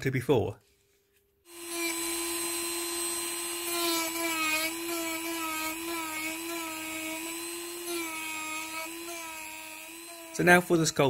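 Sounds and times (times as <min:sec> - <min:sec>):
rotary tool motor whine: 0:01.5 - 0:11.0.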